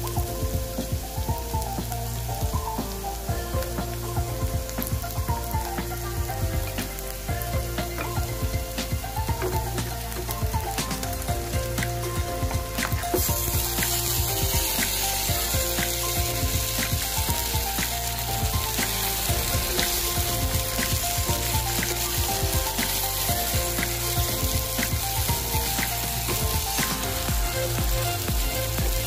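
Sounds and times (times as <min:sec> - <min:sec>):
chicken sizzling in oil: 0:00.0 - 0:29.0
light background music: 0:00.0 - 0:29.0.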